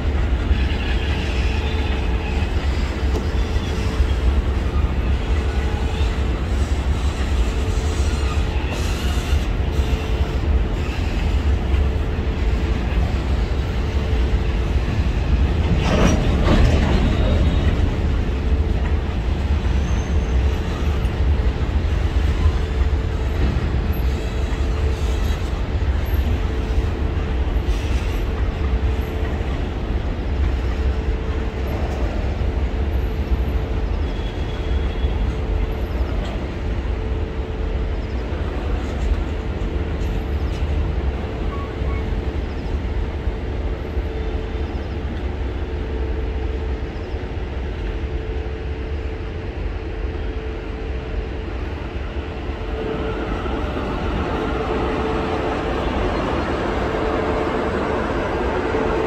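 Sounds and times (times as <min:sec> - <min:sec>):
train wagons rumbling past: 0:00.0 - 0:59.0.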